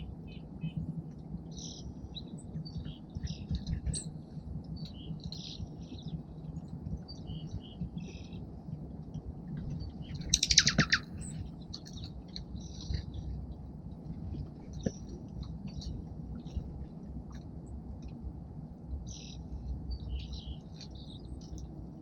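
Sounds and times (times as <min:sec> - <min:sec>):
songbirds chirping: 0:00.0 - 0:18.1, 0:18.8 - 0:22.0
low background rumble: 0:00.0 - 0:22.0.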